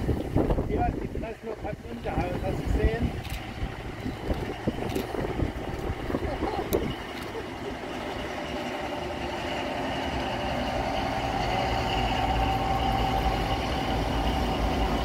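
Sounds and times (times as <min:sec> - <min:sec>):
diesel locomotive rumble: 0:00.0 - 0:15.0
steady high whine: 0:00.0 - 0:15.0.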